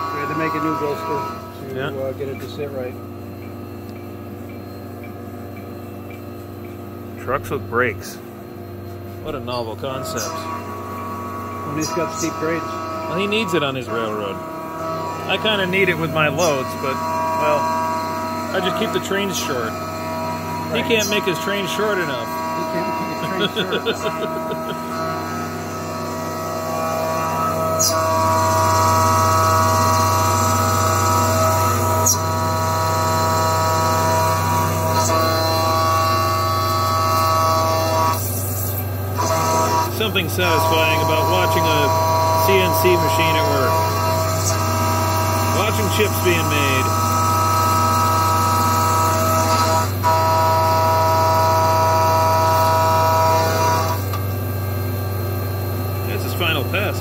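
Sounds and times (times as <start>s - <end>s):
low machine hum: 0.0s - 57.0s
metal cutting noise: 0.0s - 57.0s
milling machine whine: 0.0s - 57.0s.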